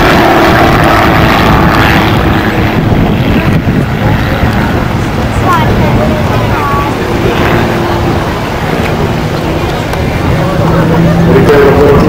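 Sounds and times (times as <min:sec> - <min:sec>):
propeller plane flying overhead: 0:00.0 - 0:12.0
wind rumble on microphone: 0:00.0 - 0:12.0.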